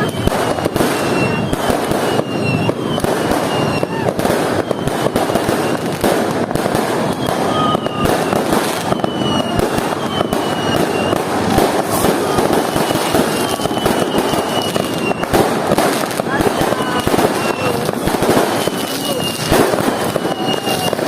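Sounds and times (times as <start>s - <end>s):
falling firework whistles: 0.0s - 21.0s
fireworks and firecrackers crackling: 0.0s - 21.0s.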